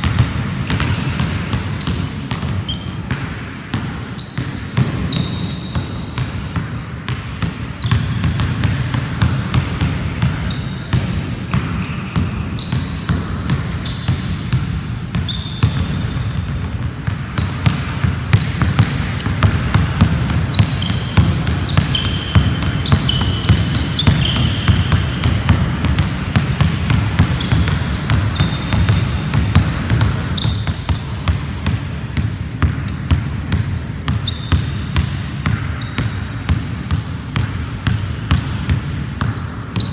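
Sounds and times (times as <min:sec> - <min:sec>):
shoe squeaks on court: 0:00.0 - 0:01.2, 0:01.8 - 0:07.2, 0:07.8 - 0:08.7, 0:10.1 - 0:16.6, 0:17.4 - 0:31.7, 0:32.6 - 0:34.7, 0:35.8 - 0:36.8, 0:39.2 - 0:39.9
basketball dribbling: 0:00.0 - 0:39.9.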